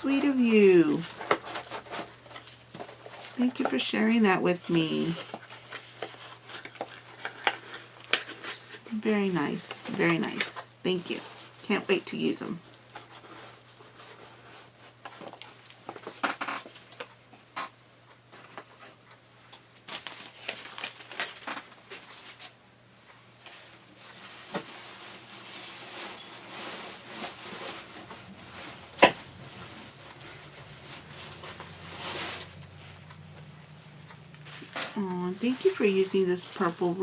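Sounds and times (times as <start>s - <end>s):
paper and packaging rustling: 0.0s - 17.2s, 19.8s - 22.6s, 23.4s - 37.0s.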